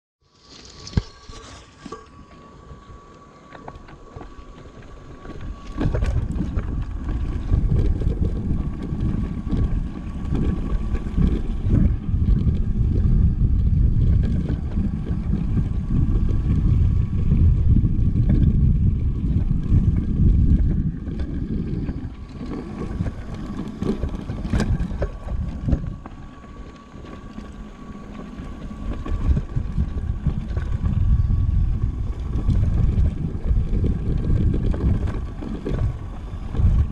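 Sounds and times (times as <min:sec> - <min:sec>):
bike tyre noise and rattle: 0:00.2 - 0:36.9
wind rumbling on microphone: 0:00.4 - 0:36.9.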